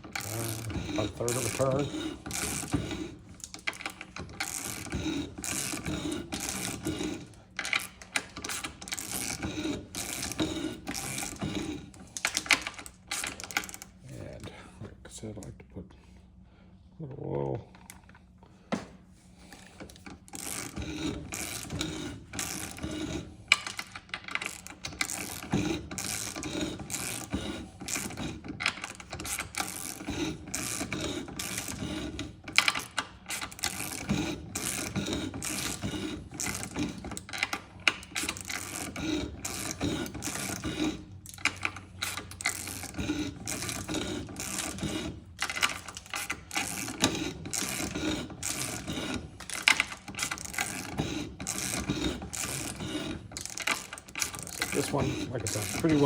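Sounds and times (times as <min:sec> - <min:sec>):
ratchet clicking: 0:00.0 - 0:13.9, 0:19.8 - 0:56.0
cutter scraping metal: 0:00.0 - 0:14.4, 0:19.5 - 0:56.0.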